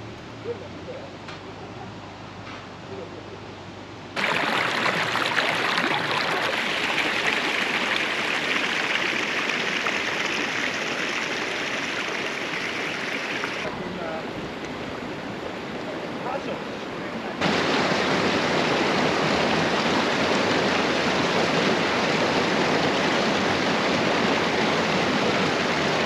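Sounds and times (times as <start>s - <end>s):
stream rushing over rocks: 4.2s - 26.0s.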